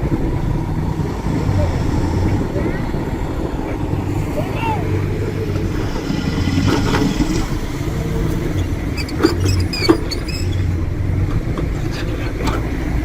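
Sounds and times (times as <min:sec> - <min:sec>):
diesel engine of heavy machinery: 0:00.0 - 0:13.0.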